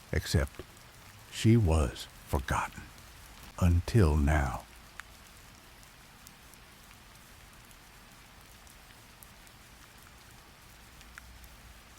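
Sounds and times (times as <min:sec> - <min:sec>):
rain drops ticking: 0:00.0 - 0:11.9
steady rain hiss: 0:00.0 - 0:11.9.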